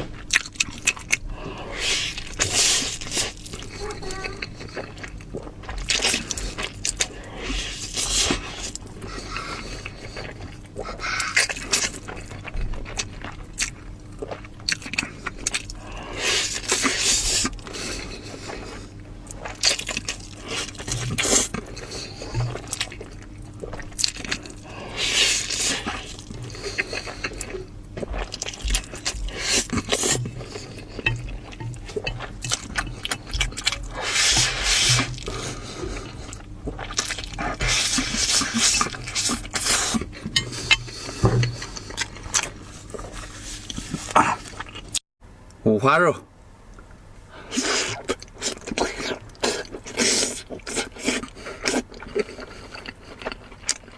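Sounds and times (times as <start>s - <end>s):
wet chewing and slurping: 0.0s - 45.0s, 47.4s - 53.9s.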